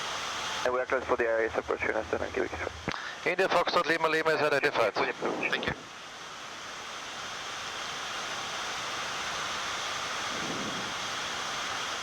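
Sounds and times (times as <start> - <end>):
steady rushing air noise: 0.1 - 6.8, 8.7 - 12.0.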